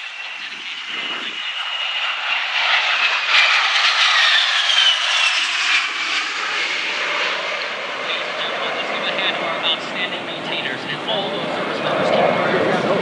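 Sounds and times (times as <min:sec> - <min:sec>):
jet engine passing overhead: 0:00.0 - 0:13.0.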